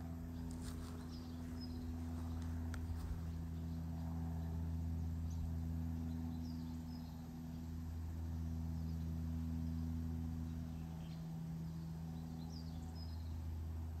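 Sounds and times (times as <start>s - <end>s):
low mechanical hum: 0.0s - 14.0s
bird chirps: 0.3s - 13.5s.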